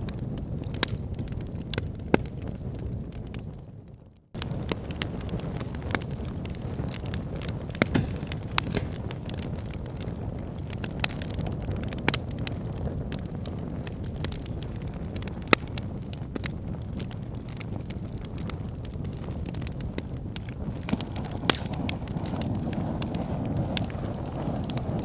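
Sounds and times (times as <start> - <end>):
bonfire crackling and popping: 0.0 - 25.0
low rumble of flames: 0.0 - 25.0.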